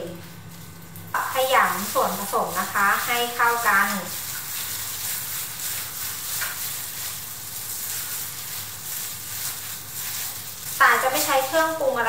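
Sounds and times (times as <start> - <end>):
wet squishing of kneaded meat: 0.1 - 12.0.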